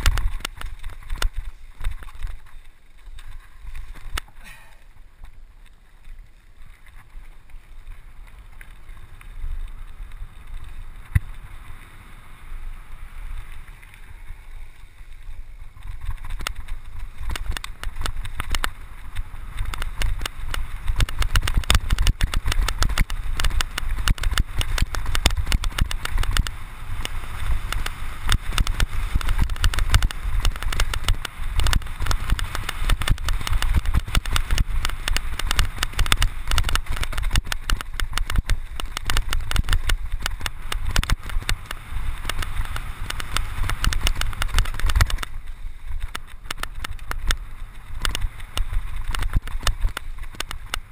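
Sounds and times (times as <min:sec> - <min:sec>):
bike rattling over rough dirt: 0:00.0 - 0:50.9
wind rumble on microphone: 0:06.0 - 0:50.9.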